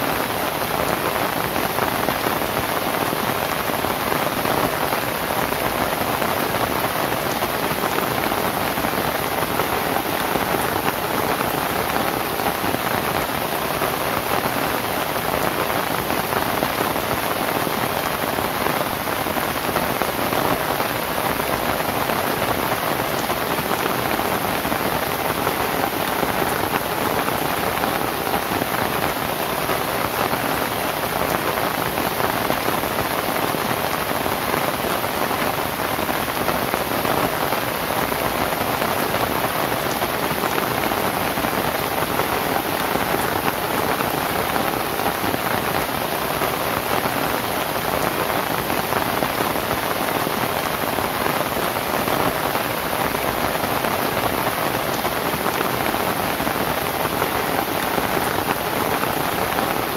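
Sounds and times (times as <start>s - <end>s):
rain on a thatched roof: 0.0s - 59.9s.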